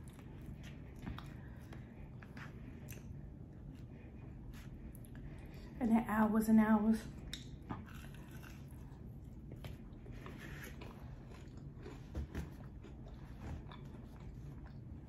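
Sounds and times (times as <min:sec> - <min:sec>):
person chewing food: 0:00.0 - 0:05.8, 0:07.2 - 0:15.0.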